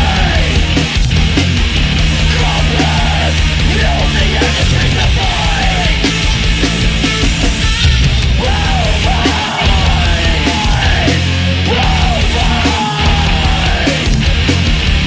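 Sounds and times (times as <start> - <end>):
bass line: 0.0 - 15.0
live punk rock band: 0.0 - 15.0.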